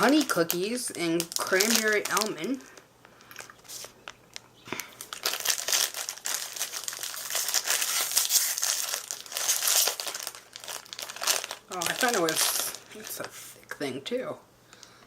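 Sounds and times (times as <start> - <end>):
packaging crinkling: 0.0 - 13.8.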